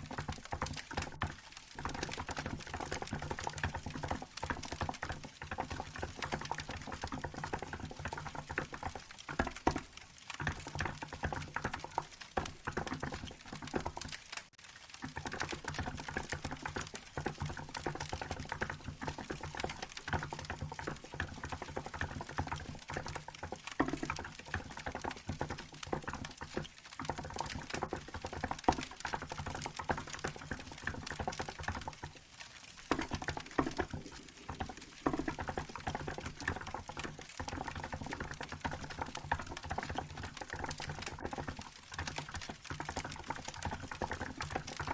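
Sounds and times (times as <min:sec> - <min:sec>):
fast typing on mechanical keyboard: 0:00.0 - 0:14.4, 0:15.0 - 0:32.2, 0:32.8 - 0:44.9
wood fire crackling: 0:00.0 - 0:44.9.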